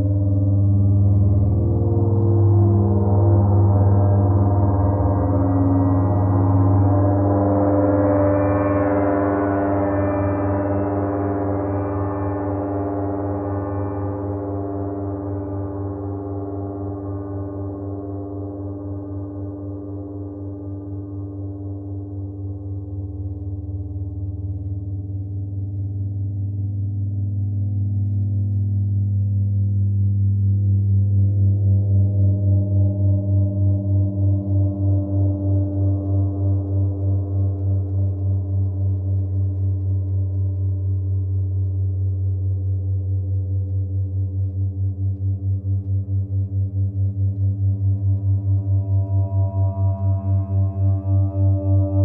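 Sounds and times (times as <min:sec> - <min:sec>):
deep hum: 0:00.0 - 0:16.5, 0:22.8 - 0:52.0.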